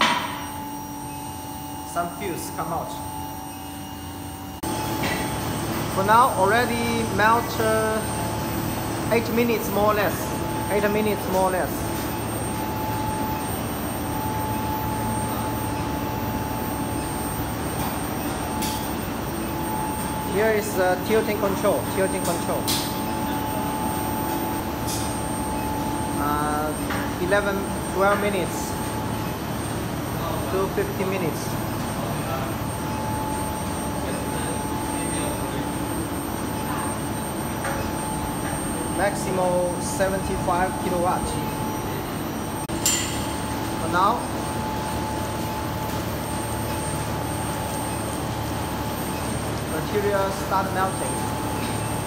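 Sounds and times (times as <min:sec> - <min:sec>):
furnace whirring with thin tone: 0:00.0 - 0:52.0.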